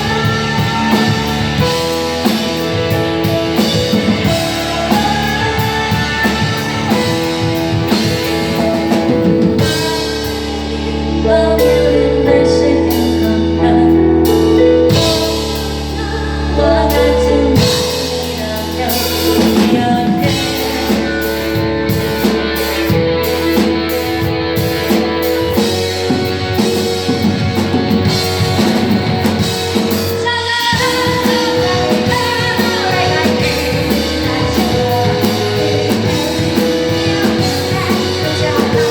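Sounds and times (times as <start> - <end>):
live rock band playing: 0.0 - 38.9
person singing: 0.0 - 38.9.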